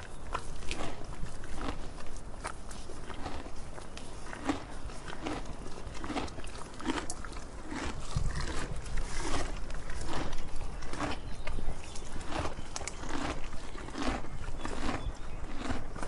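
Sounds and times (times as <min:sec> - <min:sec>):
donkey chewing food: 0:00.0 - 0:16.0.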